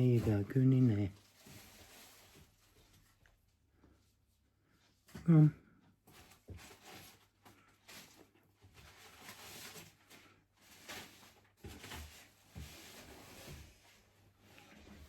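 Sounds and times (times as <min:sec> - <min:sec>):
handling scraping and rustling: 0:00.0 - 0:04.0, 0:06.1 - 0:15.0.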